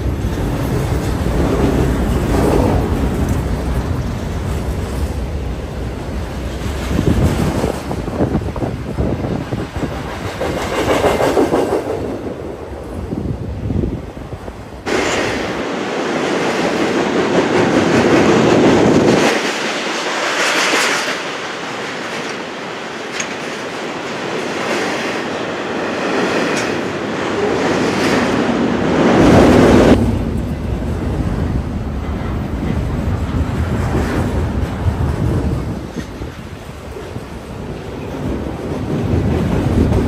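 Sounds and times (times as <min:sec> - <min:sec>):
train wheels clattering on rails: 0:00.0 - 0:13.1, 0:14.8 - 0:40.0.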